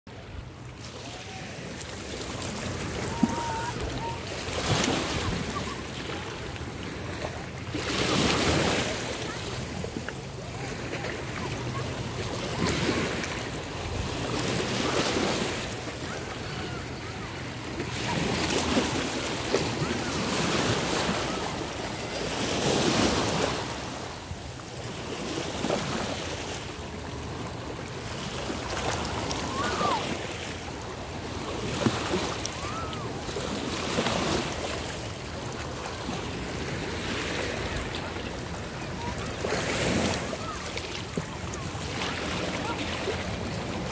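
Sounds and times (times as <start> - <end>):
ocean surf breaking: 0.2 - 43.9.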